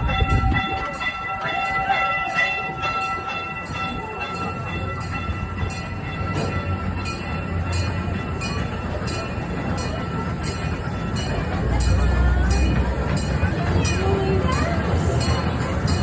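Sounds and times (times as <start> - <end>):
steam train running: 0.0 - 16.0
wheels clicking on rails: 0.0 - 16.0.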